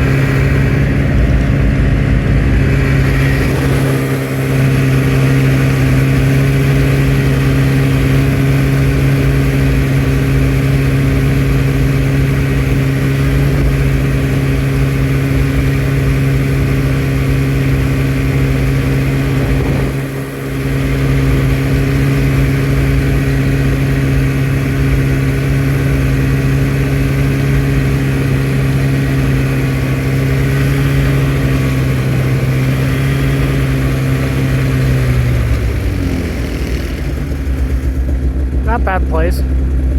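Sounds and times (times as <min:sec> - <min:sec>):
trail vehicle engine running: 0:00.0 - 0:39.9.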